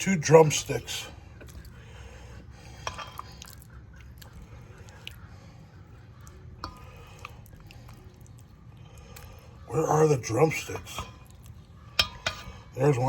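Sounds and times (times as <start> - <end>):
hands squishing raw chicken: 0.0 - 13.0
steady low hum: 0.0 - 13.0.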